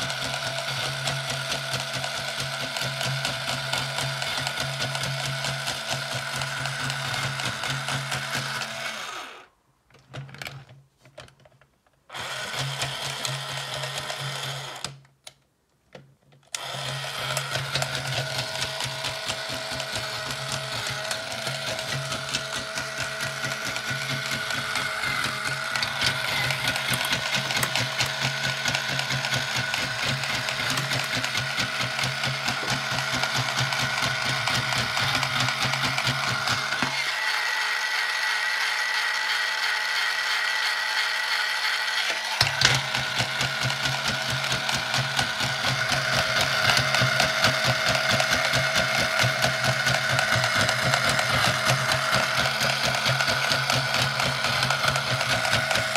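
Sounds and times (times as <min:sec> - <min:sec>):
toy robot motor whirring: 0:00.0 - 0:09.5, 0:12.1 - 0:15.0, 0:16.5 - 0:55.9.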